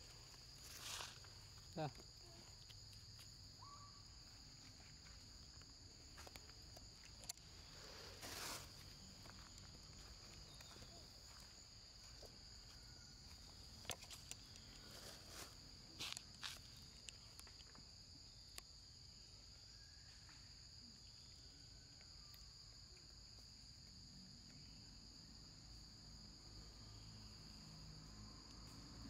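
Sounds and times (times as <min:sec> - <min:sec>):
forest insects droning: 0:00.0 - 0:29.0.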